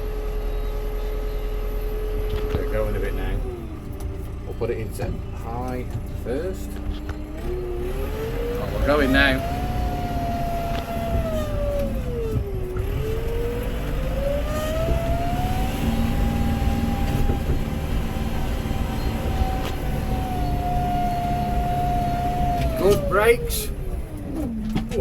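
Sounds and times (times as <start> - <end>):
engine whine: 0.0 - 25.0
tractor engine rumbling: 0.0 - 25.0.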